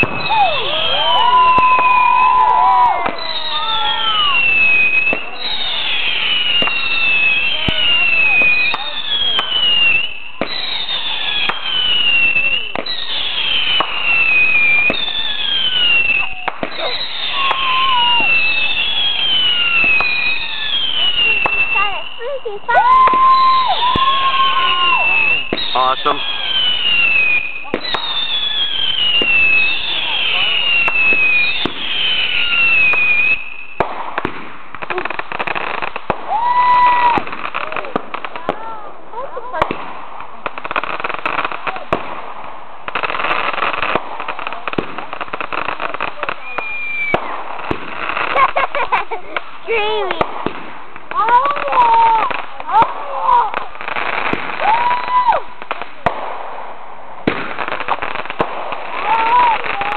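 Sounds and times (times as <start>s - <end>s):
firework bang: 0.0s - 59.9s
firework crackling: 0.0s - 59.9s
whistling fireworks: 0.0s - 59.9s.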